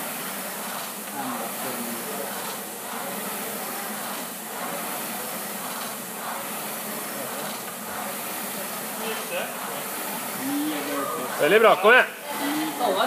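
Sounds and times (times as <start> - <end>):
rowing machine fan whooshing: 0.0 - 13.0.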